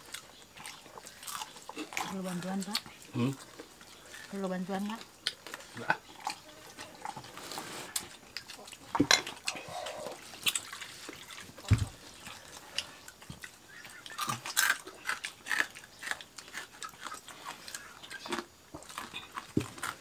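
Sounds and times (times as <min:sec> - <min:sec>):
chewing and lip-smacking: 0:00.0 - 0:20.0.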